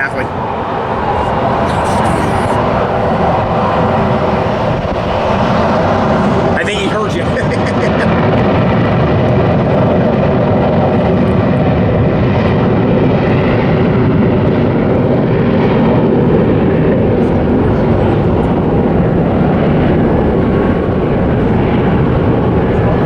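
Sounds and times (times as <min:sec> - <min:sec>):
jet airliner taking off: 0:00.0 - 0:23.0.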